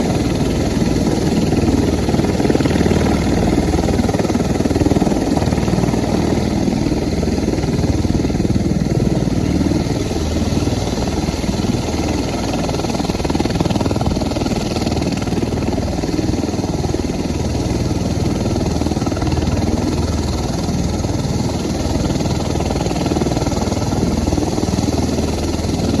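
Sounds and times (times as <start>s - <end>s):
tiltrotor aircraft engines running: 0.0s - 26.0s.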